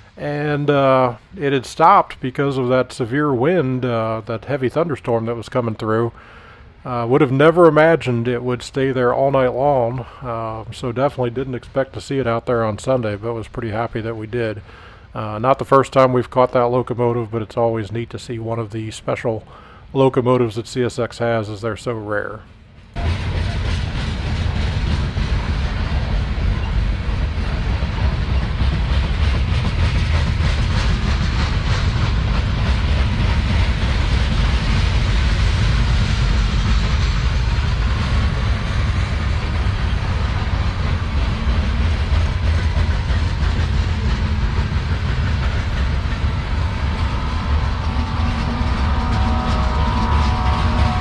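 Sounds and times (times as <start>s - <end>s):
freight train rumbling past: 0.0s - 51.0s.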